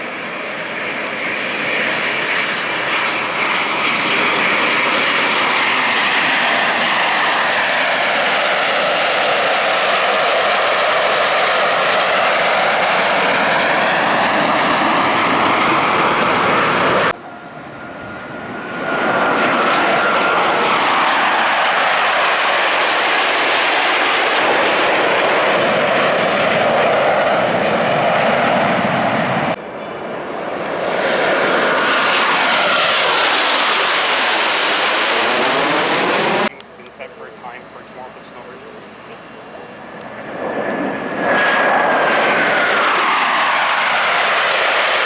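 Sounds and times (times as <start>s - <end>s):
jet roar with high whine: 0.0s - 45.0s.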